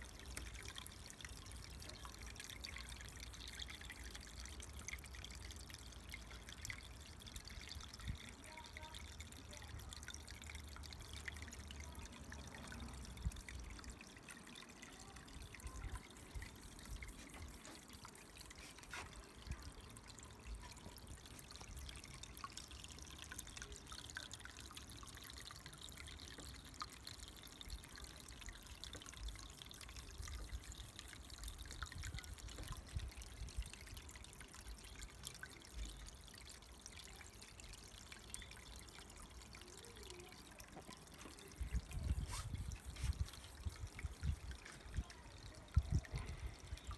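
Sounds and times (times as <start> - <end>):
water drips: 0.0 - 46.9
water trickling and splashing: 0.0 - 46.9.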